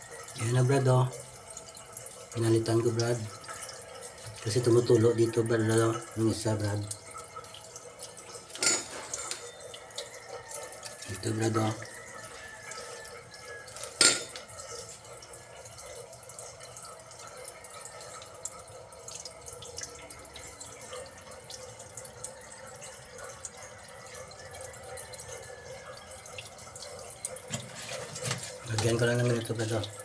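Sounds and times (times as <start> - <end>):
water trickling in a drain: 0.0 - 30.0.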